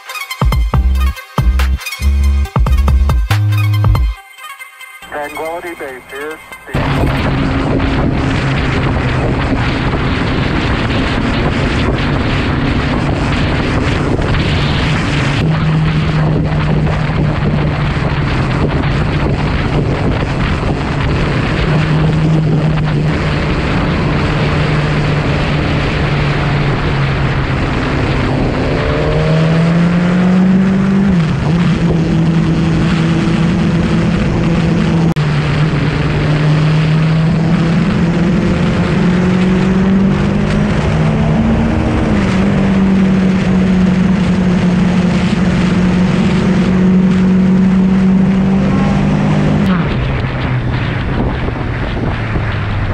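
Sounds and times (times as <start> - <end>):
wind rush: 5.2 - 52.9
motorcycle engine running: 6.7 - 52.9.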